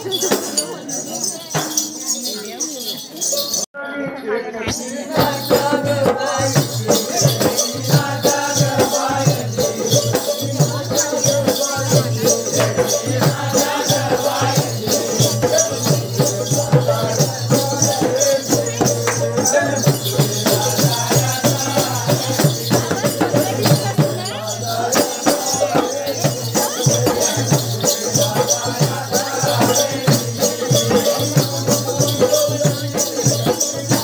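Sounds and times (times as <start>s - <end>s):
frame drums and barrel drum: 0.0s - 3.6s, 4.7s - 34.0s
bright jingling rattle: 0.0s - 34.0s.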